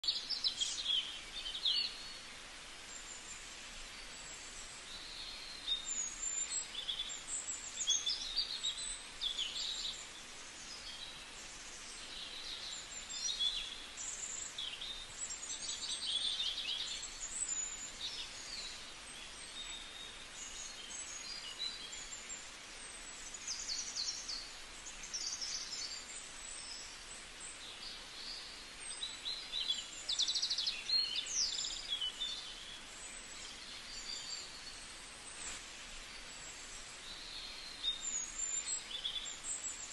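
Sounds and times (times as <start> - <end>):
background hiss: 0.0 - 39.9
birds chirping and trilling: 0.0 - 39.9.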